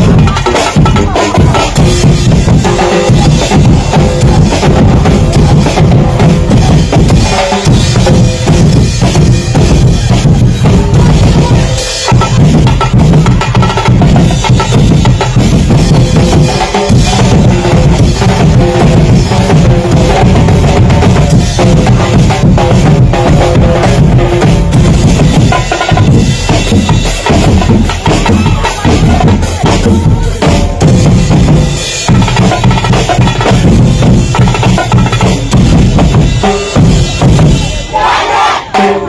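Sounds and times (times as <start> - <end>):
bass drum beating: 0.0 - 38.0.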